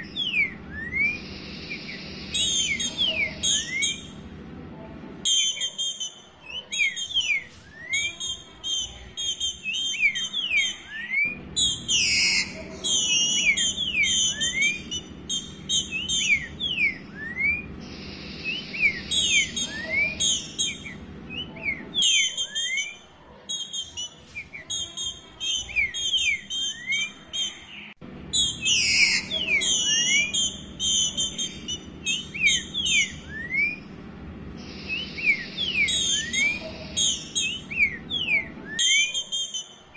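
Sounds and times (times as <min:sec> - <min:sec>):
bird chattering and whistling: 0:00.0 - 0:04.3, 0:05.2 - 0:39.9.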